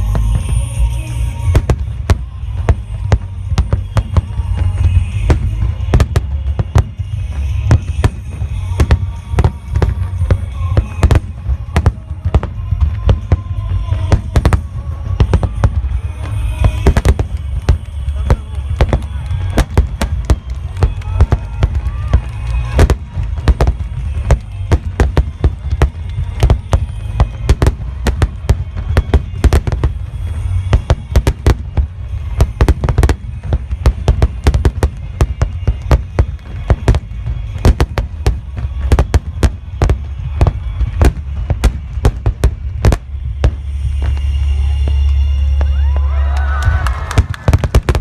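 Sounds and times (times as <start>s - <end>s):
deep rumble: 0.0s - 48.0s
fireworks bursts: 0.0s - 48.0s.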